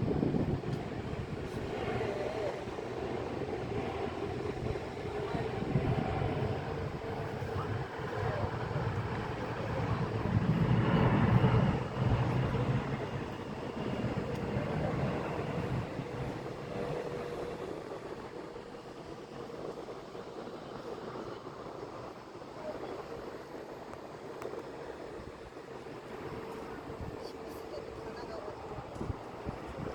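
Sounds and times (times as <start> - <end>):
jet engine rumble: 0.0 - 29.9.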